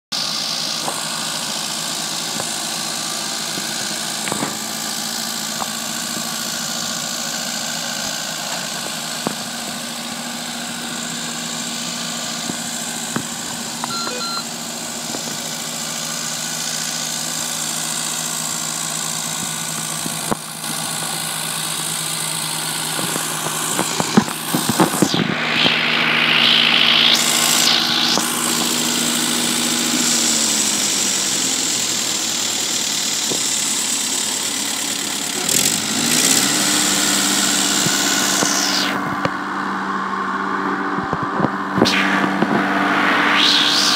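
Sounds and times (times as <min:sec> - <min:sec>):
tractor engine idling: 0:00.1 - 0:43.9.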